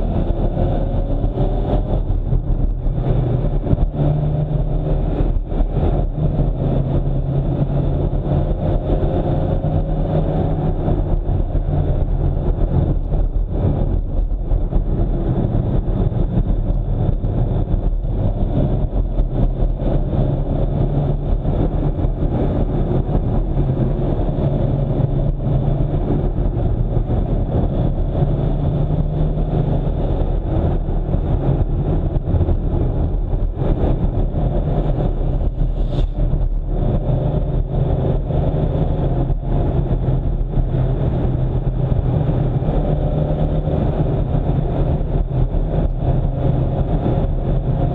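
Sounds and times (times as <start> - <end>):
car engine drone: 0.0 - 47.9
tyre and road noise: 0.0 - 47.9.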